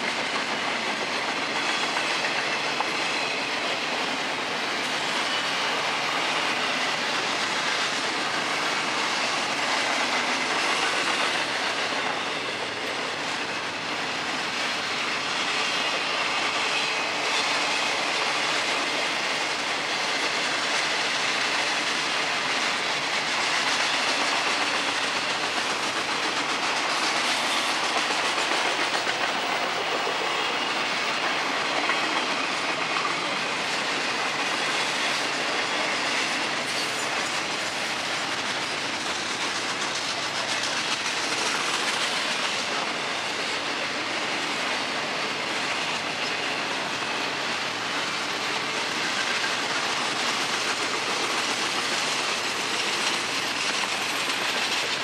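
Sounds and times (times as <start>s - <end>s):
freight train wheels rolling on rails: 0.0s - 55.0s.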